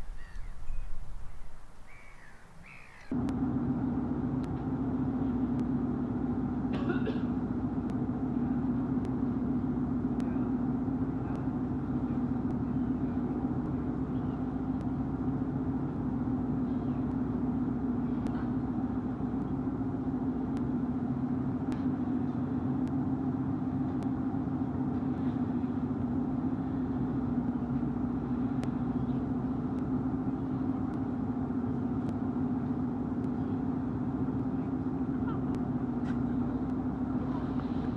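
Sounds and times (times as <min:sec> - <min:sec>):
ship engines droning: 0:00.0 - 0:37.9.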